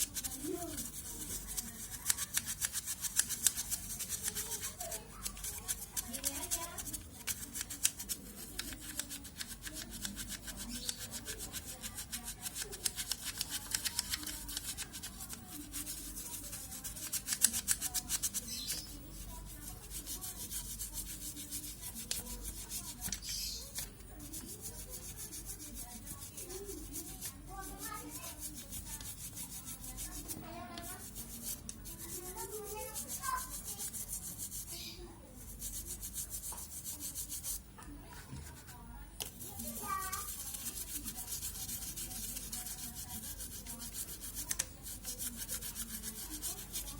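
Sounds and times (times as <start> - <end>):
stiff brush scrubbing: 0.0 - 37.7, 38.3 - 46.9
faint voices: 0.0 - 46.9.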